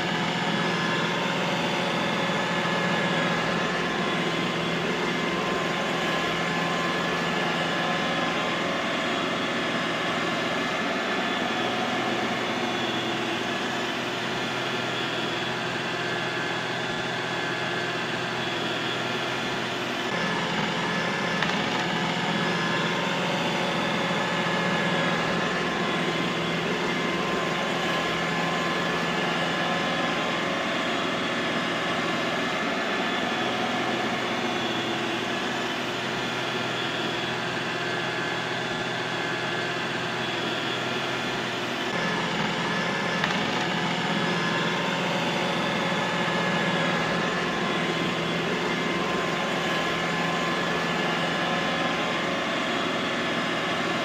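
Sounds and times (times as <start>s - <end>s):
robot vacuum cleaner running: 0.0s - 54.0s.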